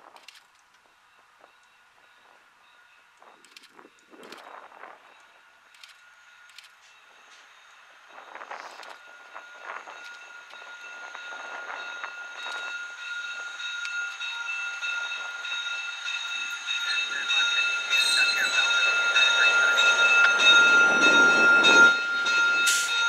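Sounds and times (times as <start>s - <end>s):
diesel locomotive engine and wheels: 0.0s - 23.0s.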